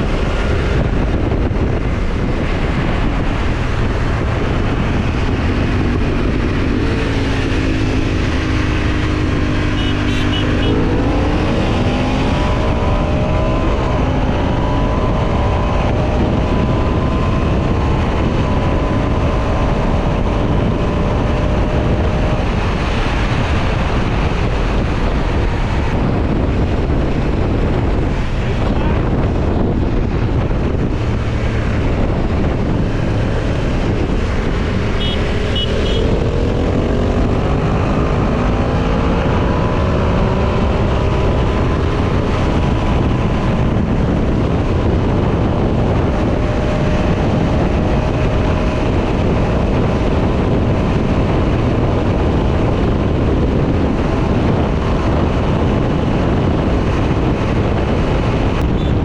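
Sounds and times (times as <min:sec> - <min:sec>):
motorcycle engine accelerating: 0:00.0 - 0:59.0
wind rushing on microphone: 0:00.0 - 0:59.0.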